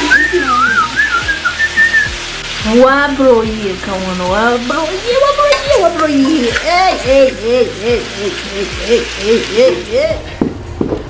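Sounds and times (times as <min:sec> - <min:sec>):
stew sizzling in a metal pot: 0:00.0 - 0:10.6
background music with singing: 0:00.0 - 0:11.0.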